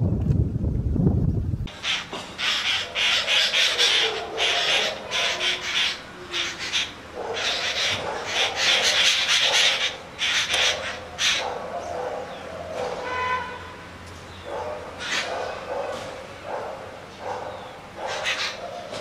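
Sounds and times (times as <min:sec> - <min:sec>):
harsh raspy bird calls: 0:01.7 - 0:13.8, 0:14.4 - 0:16.0, 0:17.0 - 0:19.0.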